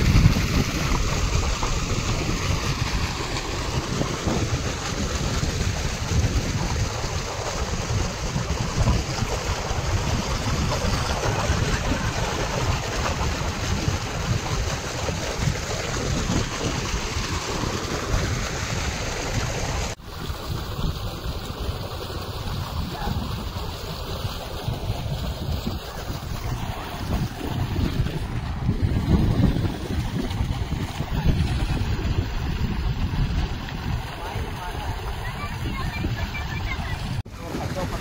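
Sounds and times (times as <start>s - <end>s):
water gushing along channel: 0.0s - 38.0s
wind buffeting microphone: 0.0s - 38.0s.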